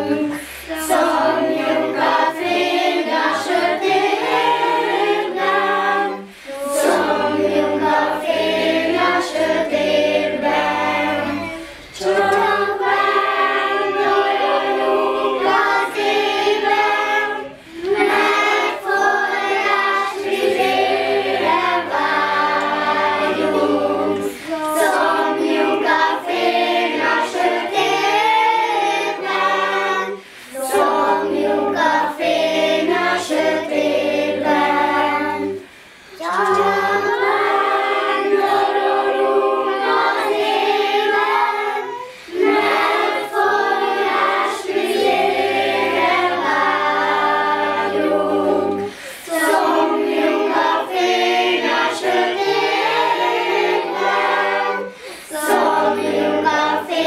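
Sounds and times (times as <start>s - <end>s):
group singing together: 0.0s - 57.0s.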